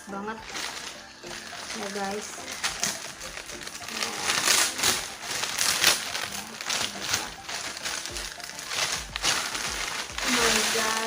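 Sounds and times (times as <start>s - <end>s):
packaging crinkling and rustling: 0.3s - 11.0s.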